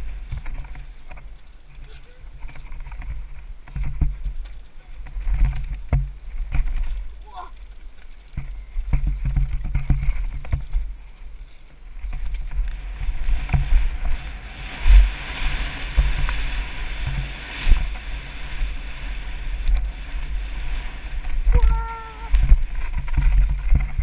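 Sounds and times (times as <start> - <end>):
bike knocking and clattering: 0.0 - 24.0
wind rumbling on microphone: 0.0 - 24.0.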